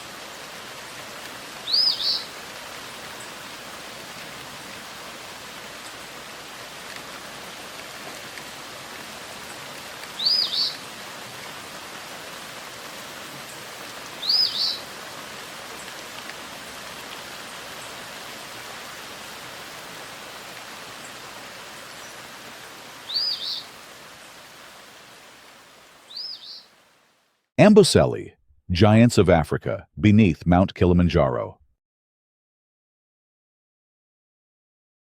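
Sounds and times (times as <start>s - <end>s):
outdoor ambience hiss: 0.0s - 30.3s.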